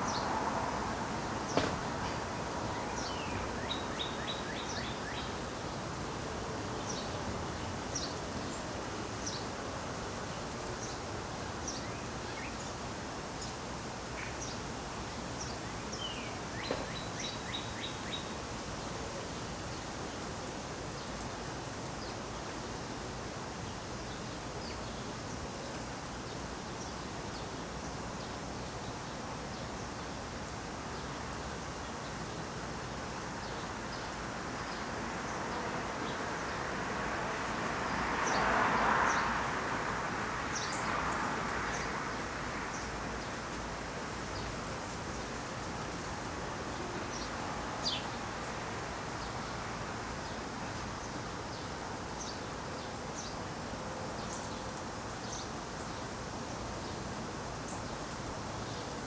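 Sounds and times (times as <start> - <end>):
outdoor background noise: 0.0 - 59.0.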